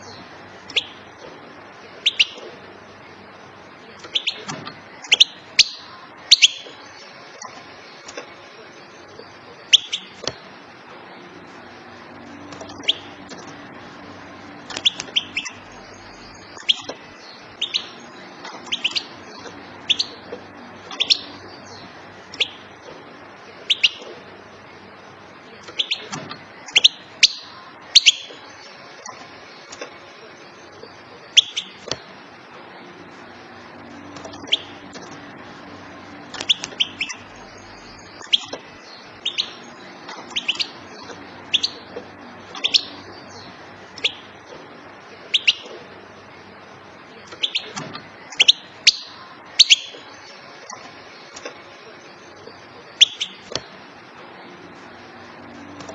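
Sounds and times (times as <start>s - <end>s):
goldfinch call notes: 0.0s - 3.2s, 3.8s - 32.0s, 32.6s - 55.9s.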